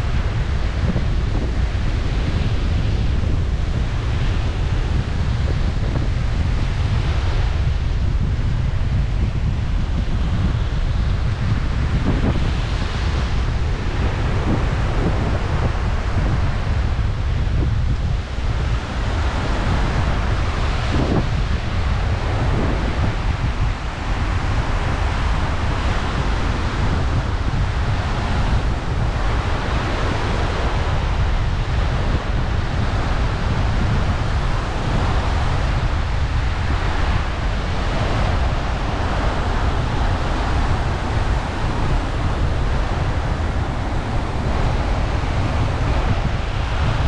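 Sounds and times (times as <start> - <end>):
ocean surf breaking on beach: 0.0 - 47.0
wind buffeting microphone: 0.0 - 47.0.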